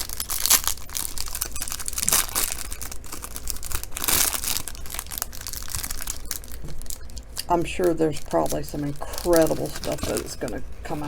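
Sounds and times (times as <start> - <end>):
wrapper crinkling and tearing: 0.0 - 11.0.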